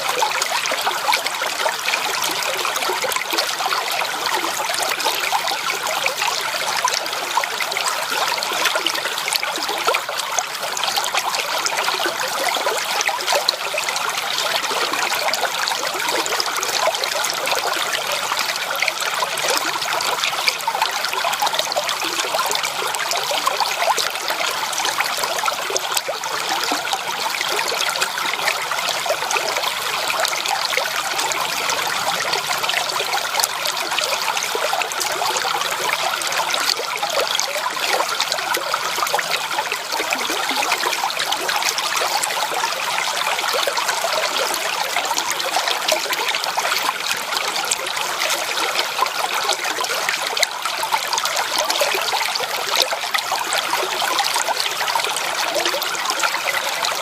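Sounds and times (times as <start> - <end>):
creek water babbling over stones: 0.0 - 57.0.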